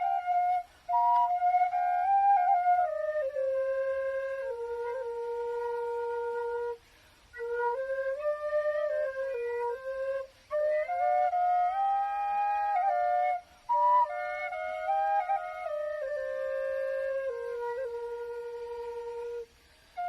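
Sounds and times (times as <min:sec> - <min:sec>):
flutes playing slow folk melody: 0:00.0 - 0:20.0.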